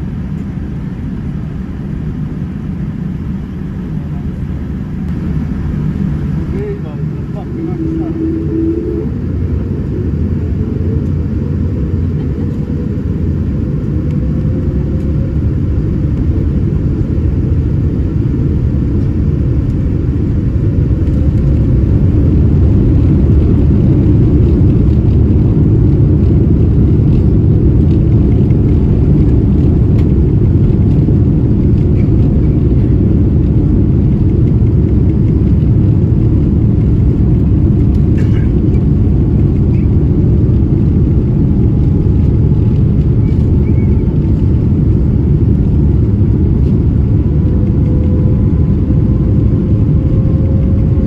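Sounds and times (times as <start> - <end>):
airplane cabin engine rumble: 0.0 - 51.0.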